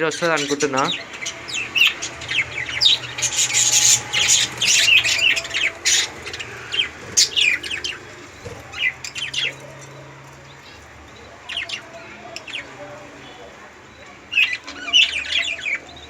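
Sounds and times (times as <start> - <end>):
budgies chattering and chirping: 0.0 - 16.0.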